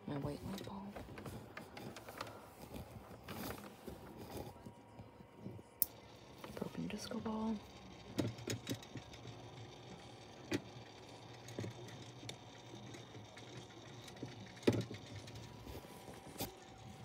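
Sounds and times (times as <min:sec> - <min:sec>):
small motor humming: 0:01.4 - 0:17.0.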